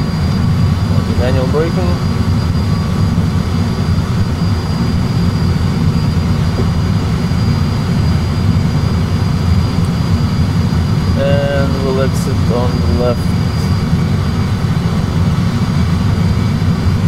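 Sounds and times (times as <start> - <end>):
aircraft low rumble: 0.0 - 17.0
faint high whine: 0.0 - 17.0.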